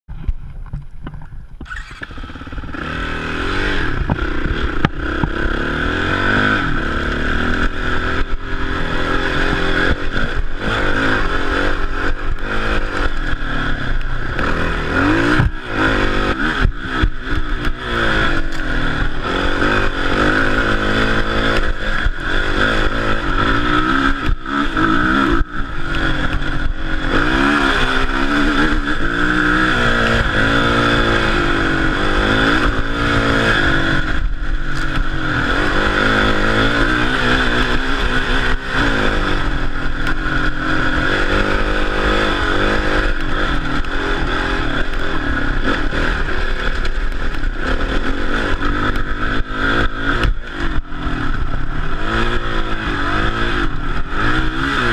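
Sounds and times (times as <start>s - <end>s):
dirt bike engine revving: 1.6s - 54.9s.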